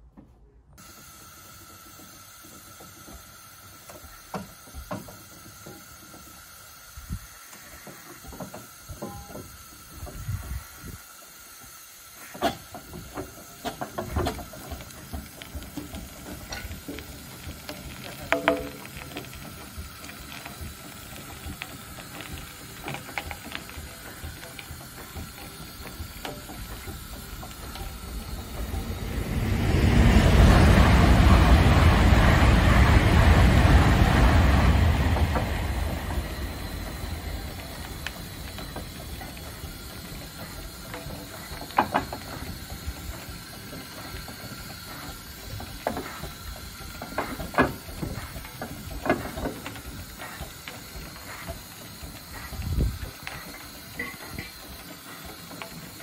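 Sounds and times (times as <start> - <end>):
steam engine running quietly: 0.0 - 56.0
loud rush of blowing steam: 0.8 - 56.0.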